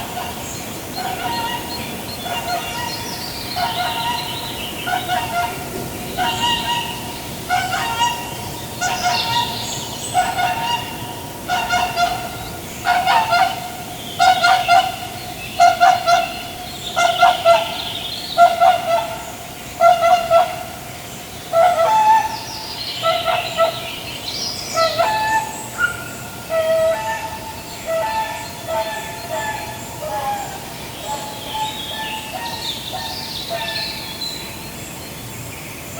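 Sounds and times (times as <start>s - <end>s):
waterfowl honking: 0.0s - 20.9s, 21.5s - 24.0s, 24.7s - 34.0s.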